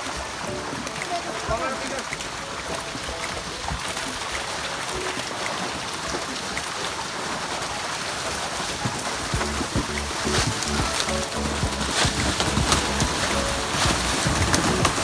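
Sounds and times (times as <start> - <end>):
water splashing and hissing: 0.0 - 15.0.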